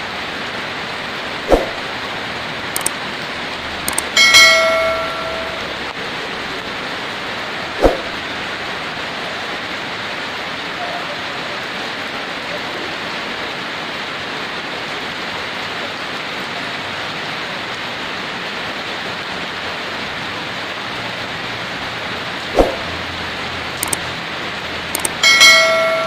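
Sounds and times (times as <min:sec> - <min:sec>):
heavy rain on leaves: 0:00.0 - 0:26.0.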